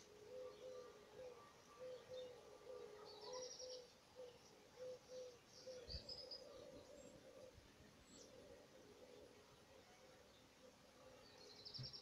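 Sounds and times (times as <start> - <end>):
birds chirping trills: 0.0 - 12.0.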